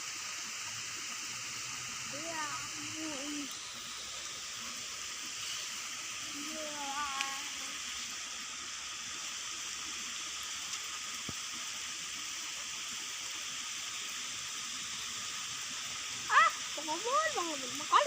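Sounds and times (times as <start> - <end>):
falling rain hiss: 0.0 - 18.0.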